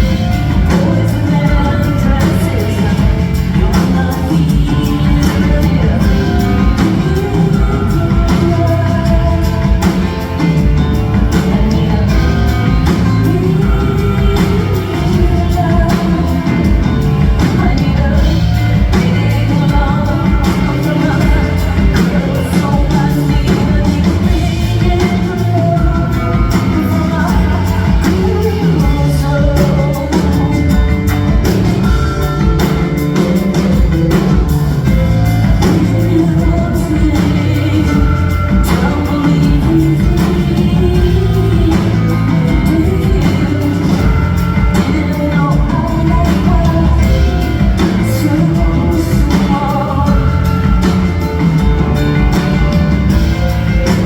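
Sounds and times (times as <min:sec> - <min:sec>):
rock band playing: 0:00.0 - 0:54.0
woman singing: 0:00.0 - 0:54.0.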